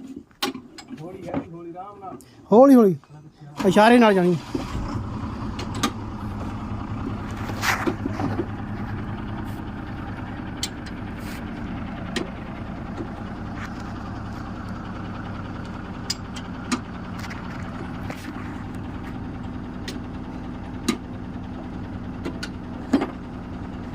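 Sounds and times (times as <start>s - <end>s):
engine idling: 0.5s - 23.9s.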